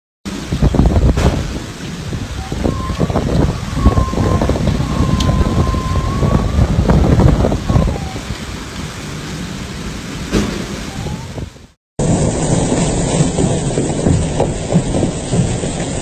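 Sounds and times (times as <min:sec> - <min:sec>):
heavy rain: 0:00.3 - 0:16.0
rushing floodwater: 0:00.3 - 0:16.0
strong wind buffeting microphone: 0:00.3 - 0:16.0.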